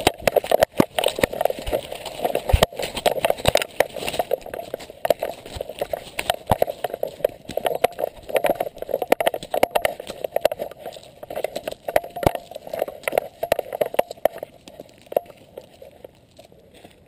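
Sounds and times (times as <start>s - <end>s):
sharp knocks and clicks: 0.0s - 15.8s
dog footfalls in dry leaves: 0.0s - 17.0s.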